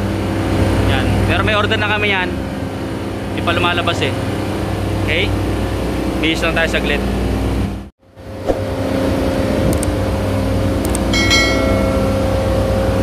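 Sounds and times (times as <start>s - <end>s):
chillers humming: 0.0s - 13.0s.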